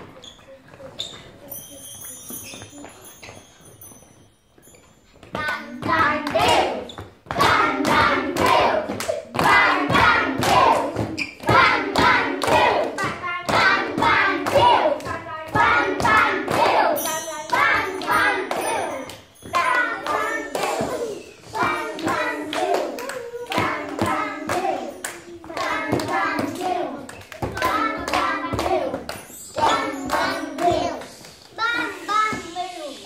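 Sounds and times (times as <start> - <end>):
children clapping in rhythm: 5.3 - 31.9
children's voices in unison: 5.4 - 33.0.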